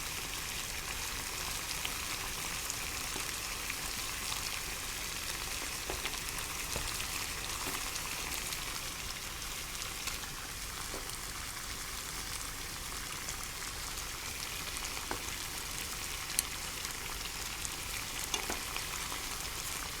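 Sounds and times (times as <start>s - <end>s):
water boiling in a pot: 0.0s - 20.0s.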